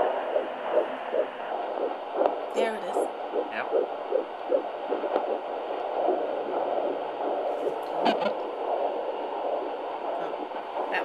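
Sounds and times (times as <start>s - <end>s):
fast whooshing heartbeat pulse: 0.0s - 11.0s.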